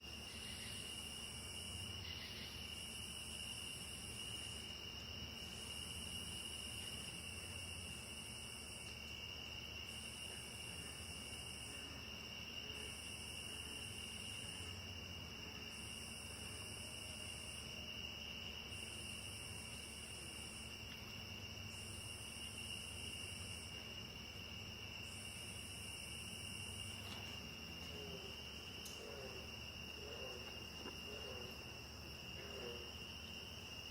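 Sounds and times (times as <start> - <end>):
crickets trilling: 0.0 - 33.9
insect buzzing call: 0.0 - 33.9.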